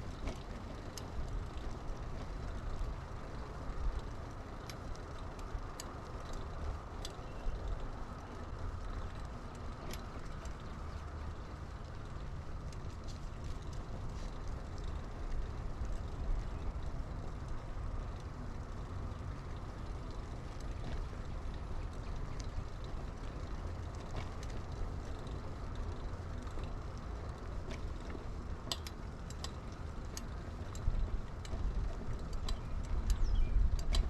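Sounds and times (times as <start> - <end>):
bike clicks and rattles: 0.0 - 34.0
bike tyre noise: 0.0 - 34.0.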